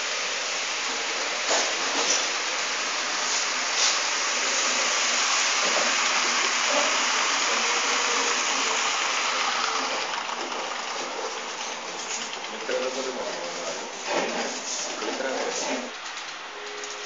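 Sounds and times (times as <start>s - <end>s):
model train running on rails: 0.0s - 17.0s.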